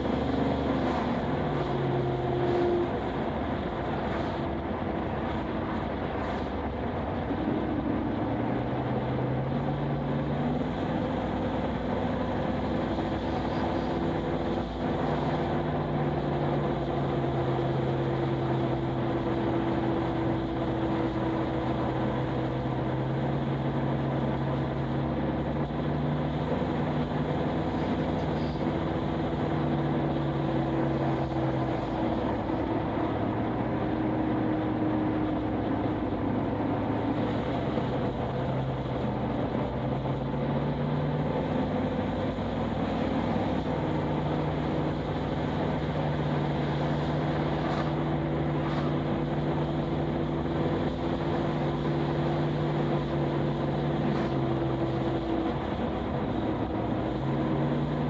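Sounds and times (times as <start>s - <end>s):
car engine droning: 0.0s - 58.0s
road and tyre noise: 0.0s - 58.0s.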